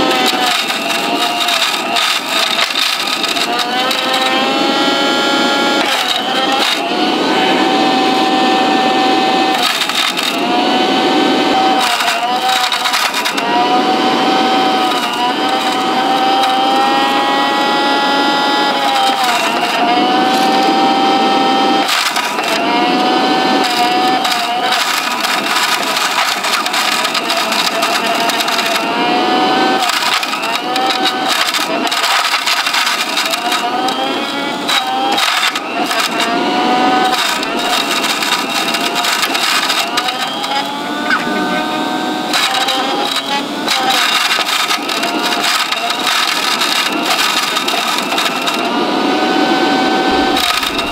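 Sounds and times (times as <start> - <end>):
grit crackling and rattling: 0.0 - 4.7, 5.7 - 7.0, 9.5 - 10.6, 11.6 - 17.3, 18.6 - 20.7, 21.8 - 41.2, 42.3 - 48.7, 50.0 - 50.9
vacuum motor whine: 0.0 - 50.9.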